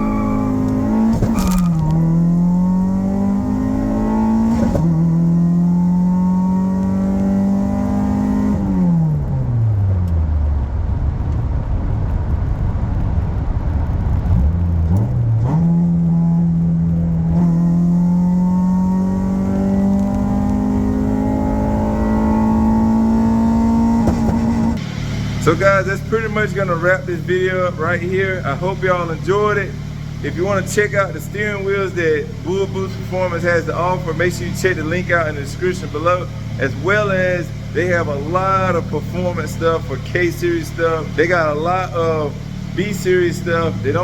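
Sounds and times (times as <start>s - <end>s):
car engine under way: 0.0s - 44.0s.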